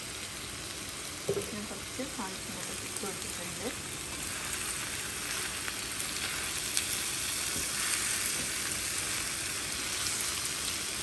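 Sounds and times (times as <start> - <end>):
meat sizzling in a pan: 0.0 - 11.0.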